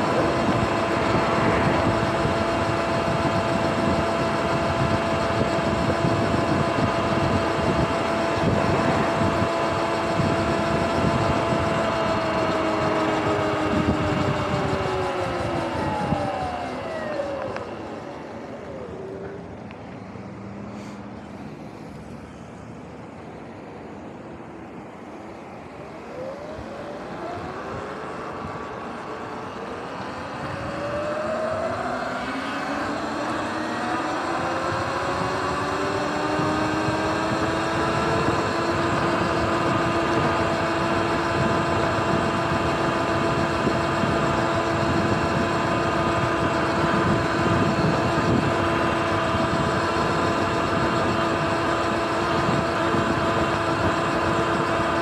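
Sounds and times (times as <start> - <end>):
electric motor whine: 0.0 - 55.0
wind and road noise: 0.0 - 55.0.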